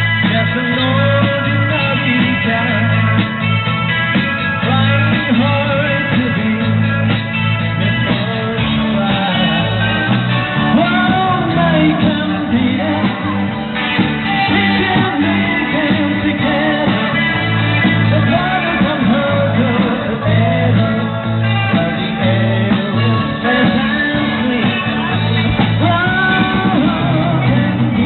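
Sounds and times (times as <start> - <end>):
lead singer singing: 0.0 - 28.0
live rock band playing: 0.0 - 28.0.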